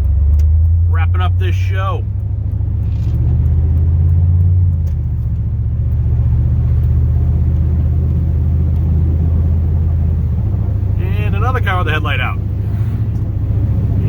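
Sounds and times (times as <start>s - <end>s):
engine drone inside cab: 0.0s - 14.0s.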